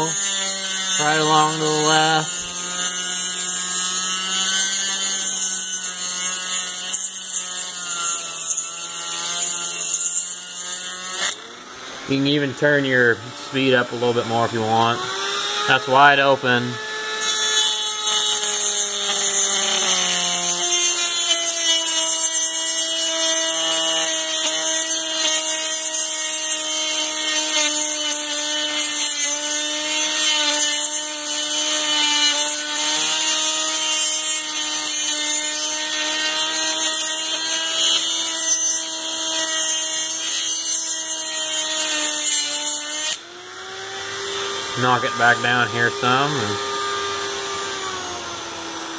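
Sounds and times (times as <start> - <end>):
rotary tool grinding metal: 0.0 - 48.9.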